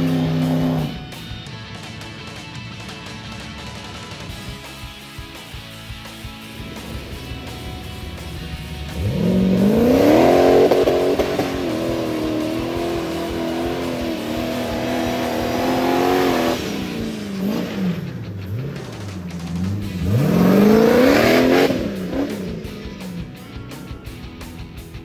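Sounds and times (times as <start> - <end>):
buggy engine revving: 0.0 - 25.0
faint music: 0.0 - 25.0.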